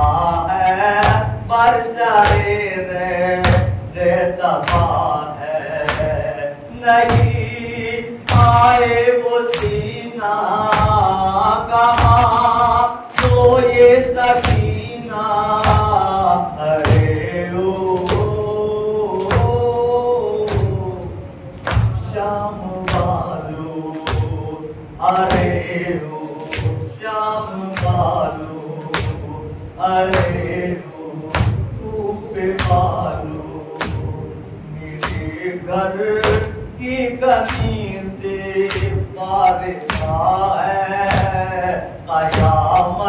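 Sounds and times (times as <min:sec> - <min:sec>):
man chanting a lament: 0:00.0 - 0:43.0.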